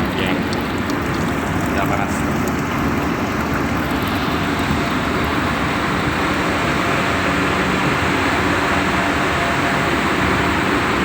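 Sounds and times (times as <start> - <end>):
engine rumbling steadily: 0.0 - 11.0.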